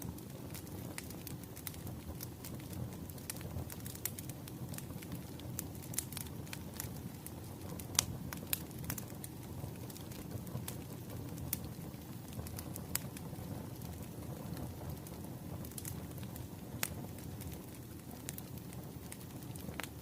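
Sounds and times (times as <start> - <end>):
burning logs rumbling: 0.0 - 20.0
fire popping: 0.0 - 20.0.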